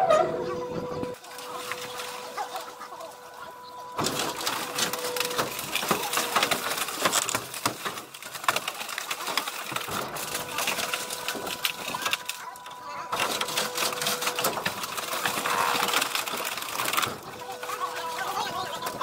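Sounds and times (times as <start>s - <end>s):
car body cracking and creaking: 0.0s - 19.0s
hydraulic press humming: 0.0s - 19.0s.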